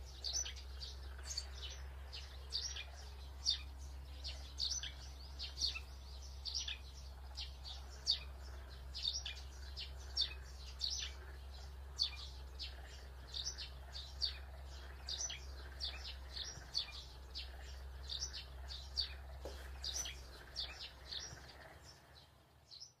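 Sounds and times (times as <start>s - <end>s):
low steady hum: 0.0s - 23.0s
small bird chirping: 0.0s - 23.0s.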